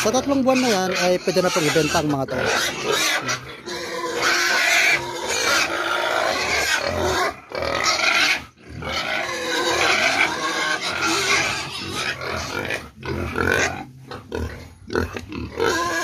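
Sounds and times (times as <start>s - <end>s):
pigs squealing and grunting: 0.0s - 16.0s.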